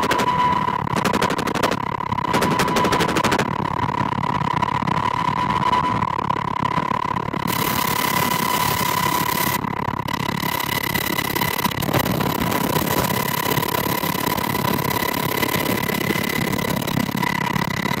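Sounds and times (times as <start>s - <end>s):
helicopter rotor and turbine noise: 0.0s - 18.0s
high turbine whine: 0.0s - 18.0s.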